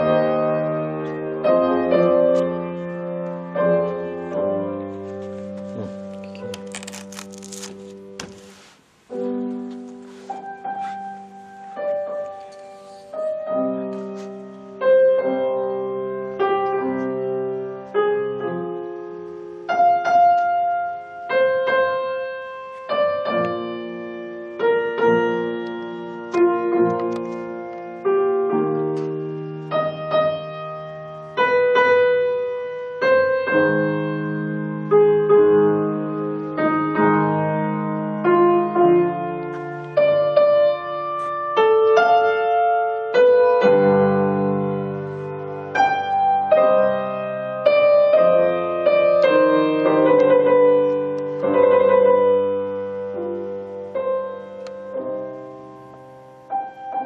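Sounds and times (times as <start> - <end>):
slow solo piano piece: 0.0 - 57.0.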